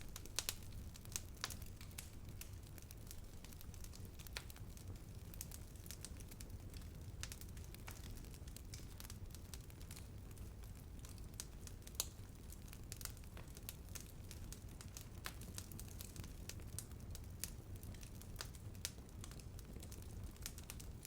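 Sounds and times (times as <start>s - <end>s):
low rumble of flame: 0.0s - 21.0s
wood fire crackling: 0.0s - 21.0s.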